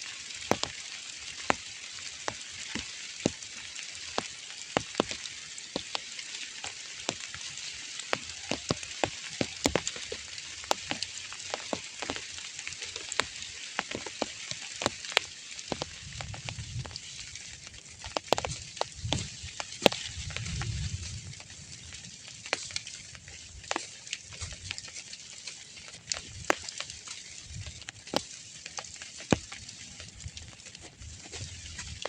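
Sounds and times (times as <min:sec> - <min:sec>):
light rain hissing: 0:00.0 - 0:32.0
raindrops ticking: 0:00.0 - 0:32.0.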